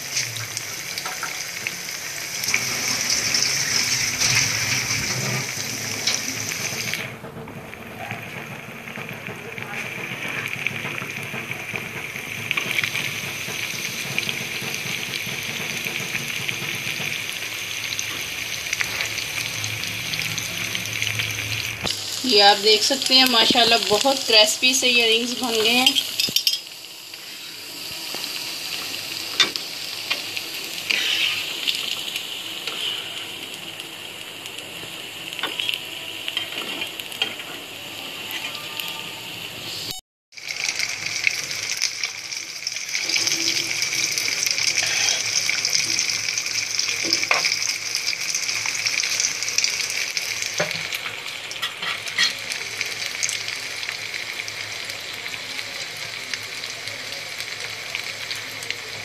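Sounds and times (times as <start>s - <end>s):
deep-frying sizzle: 0.0s - 59.0s.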